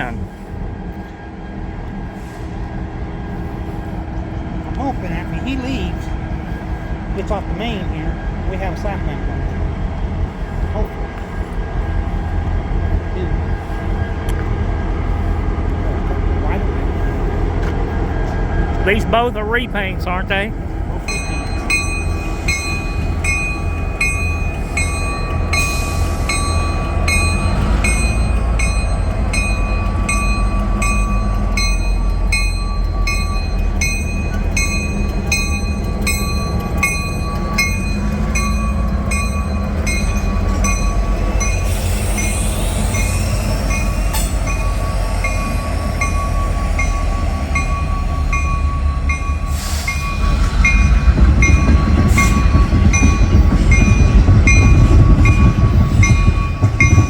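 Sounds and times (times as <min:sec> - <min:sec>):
diesel locomotives rumbling: 0:00.0 - 0:57.0.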